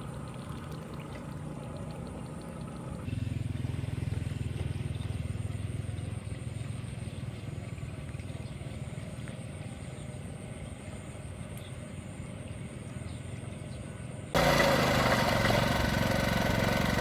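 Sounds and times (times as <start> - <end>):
small engine chugging: 0.0 - 11.3, 14.4 - 17.0.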